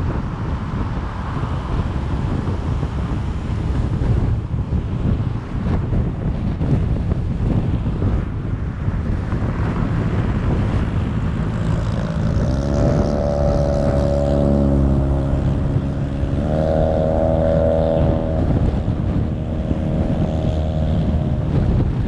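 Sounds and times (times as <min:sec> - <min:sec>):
road rush: 0:00.0 - 0:22.0
vehicle engine running: 0:00.0 - 0:22.0
wind on microphone: 0:00.0 - 0:22.0.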